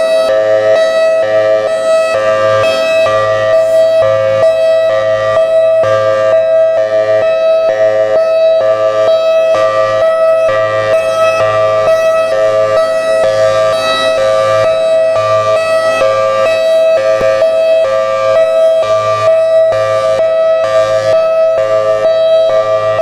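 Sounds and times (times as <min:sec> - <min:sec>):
high-low warning siren: 0:00.0 - 0:23.0.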